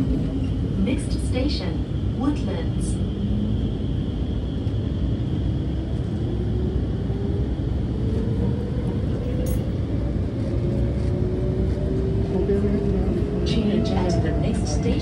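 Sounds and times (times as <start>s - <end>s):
train running gear rumble: 0.0s - 15.0s.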